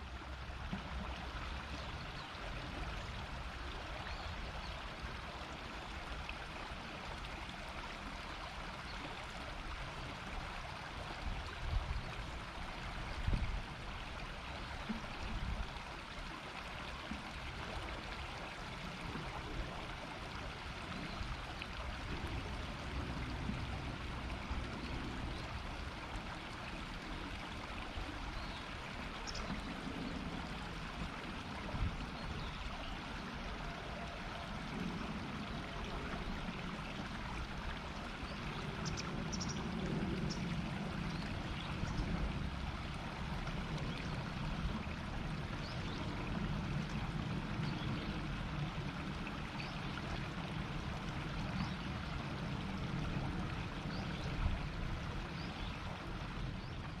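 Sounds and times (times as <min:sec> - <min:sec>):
river babbling: 0:00.0 - 0:57.0.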